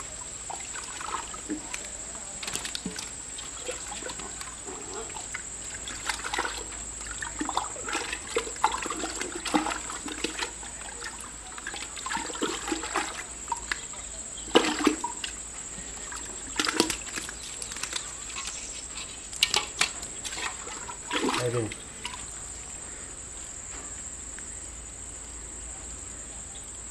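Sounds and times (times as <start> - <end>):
squelching and sloshing mud water: 0.0 - 22.5.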